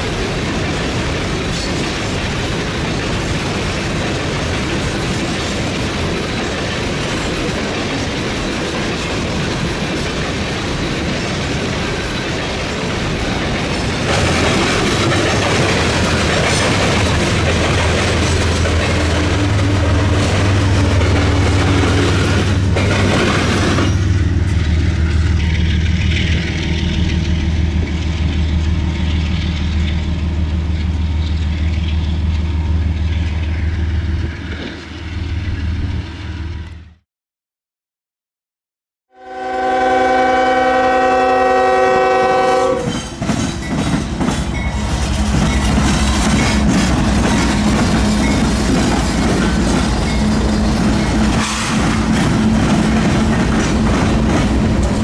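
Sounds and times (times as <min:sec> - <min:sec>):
train wheels clacking on rails: 0:00.0 - 0:36.2, 0:41.0 - 0:55.0
low train rumble: 0:00.0 - 0:37.0, 0:39.2 - 0:55.0.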